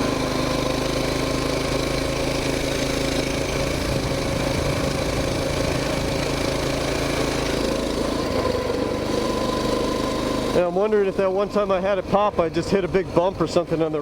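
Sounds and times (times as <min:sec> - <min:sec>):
small bike engine running: 0:00.0 - 0:14.0.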